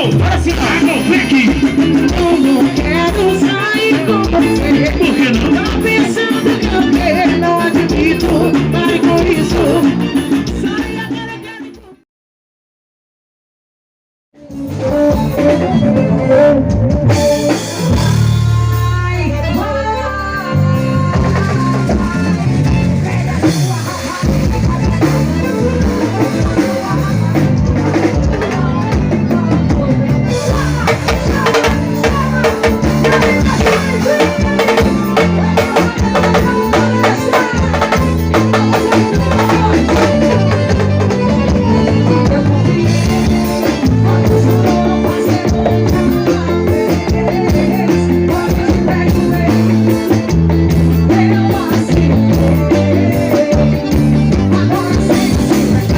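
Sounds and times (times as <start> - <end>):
band music: 0.0 - 12.0, 14.4 - 55.9
drum kit beat: 0.0 - 12.0, 14.4 - 55.9.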